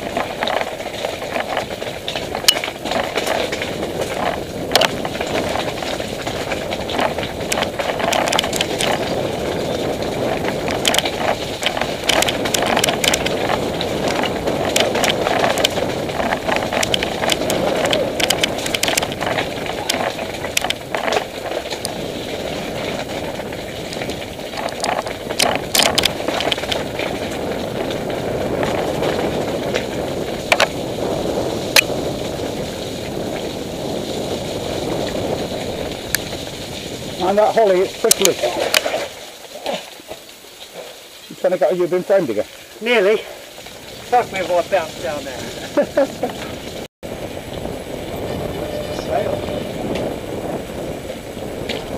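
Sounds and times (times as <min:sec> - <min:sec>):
bike clicks and rattles: 0:00.0 - 0:51.9
tyres rumbling on dirt: 0:00.0 - 0:51.9.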